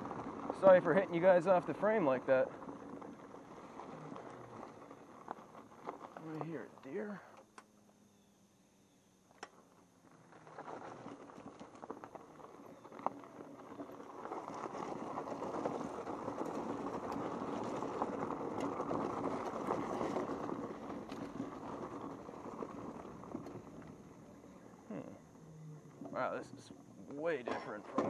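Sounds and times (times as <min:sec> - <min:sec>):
bike rattling over bumps: 0:00.0 - 0:28.0
tyres crunching over dirt: 0:00.0 - 0:28.0.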